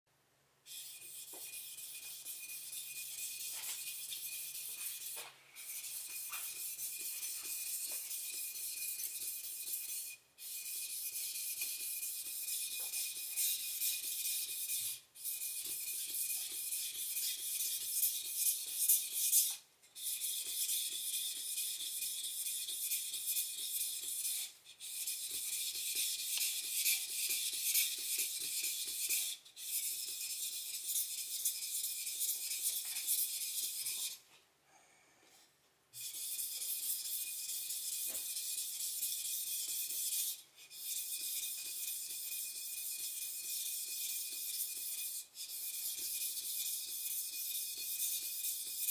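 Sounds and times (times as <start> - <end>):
knife rasping on a whetstone: 0.7 - 34.2, 36.0 - 48.9.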